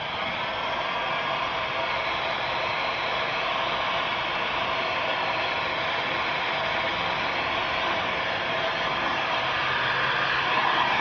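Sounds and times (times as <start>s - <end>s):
hot-air blower running: 0.0s - 11.0s.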